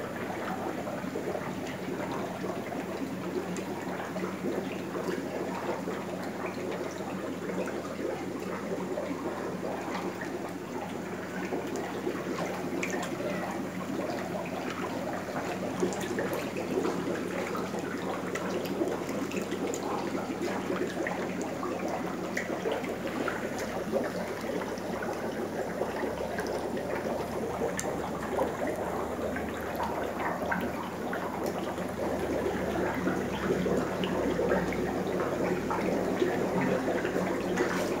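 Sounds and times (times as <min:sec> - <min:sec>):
water trickling and splashing: 0:00.0 - 0:38.0.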